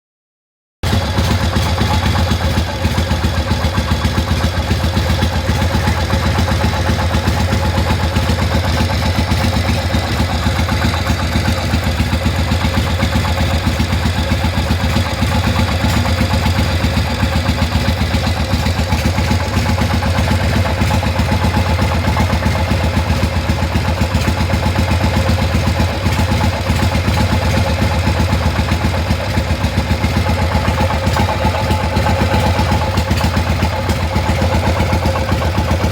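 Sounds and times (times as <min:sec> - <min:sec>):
motorcycle engine running: 0:00.8 - 0:35.9.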